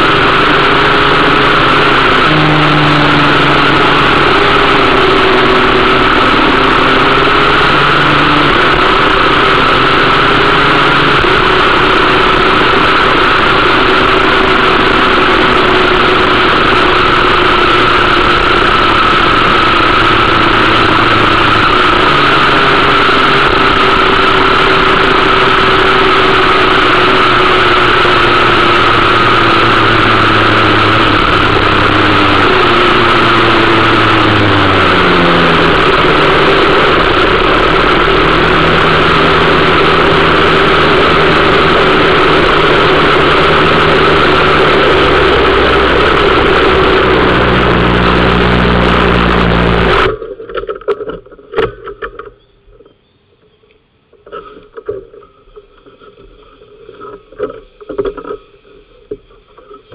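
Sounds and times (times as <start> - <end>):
kart engine running: 0.0 - 52.3.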